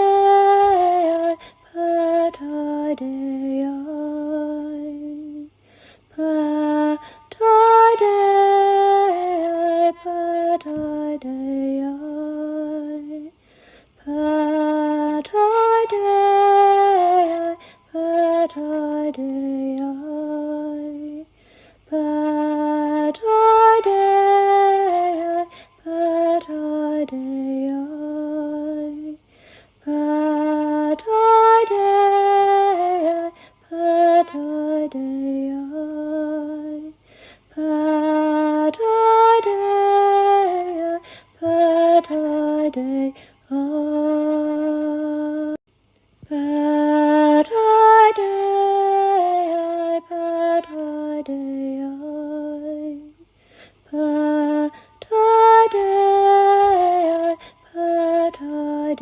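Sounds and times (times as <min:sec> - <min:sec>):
woman singing wordless lullaby: 0:00.0 - 0:59.0.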